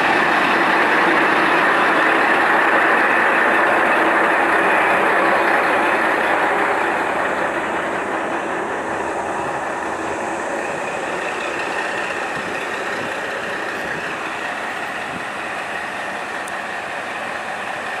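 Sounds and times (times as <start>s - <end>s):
diesel railcar engine idling: 0.0s - 18.0s.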